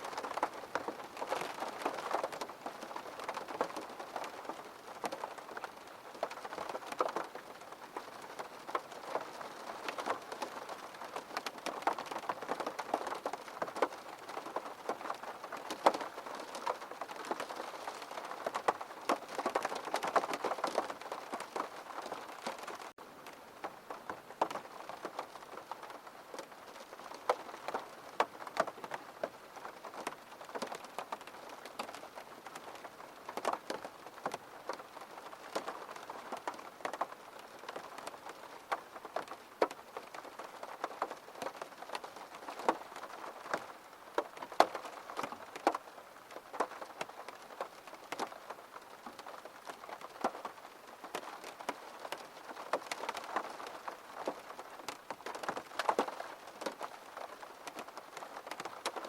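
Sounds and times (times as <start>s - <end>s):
gentle rain falling: 0.0s - 59.0s
raindrops ticking and splashing: 0.0s - 59.0s.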